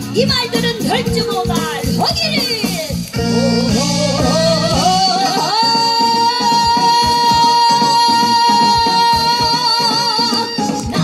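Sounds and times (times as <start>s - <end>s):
accompaniment with steady beat: 0.0s - 11.0s
woman singing into a microphone: 0.2s - 11.0s.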